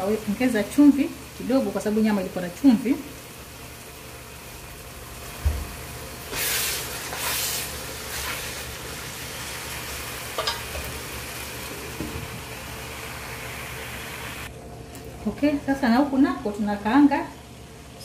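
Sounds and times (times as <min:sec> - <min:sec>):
meat sizzling in a pot: 0:00.0 - 0:14.5.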